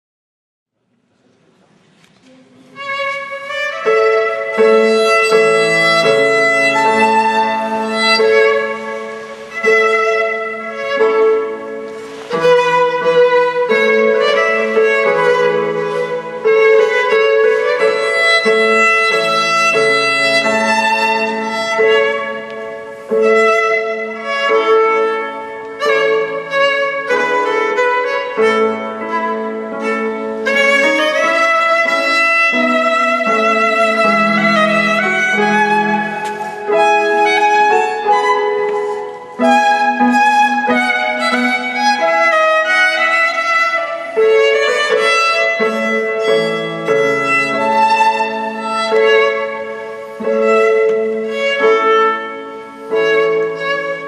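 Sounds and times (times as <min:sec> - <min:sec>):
violin playing a melody: 0:02.1 - 0:54.0.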